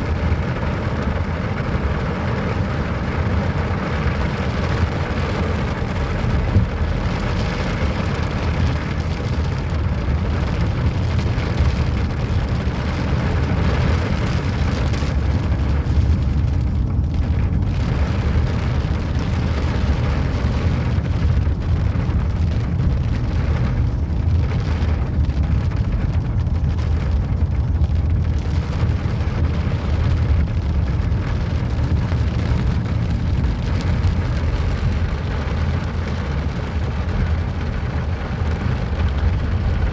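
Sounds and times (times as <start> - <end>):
continuous low rumble: 0.0 - 39.9
steady rain falling: 0.0 - 39.9.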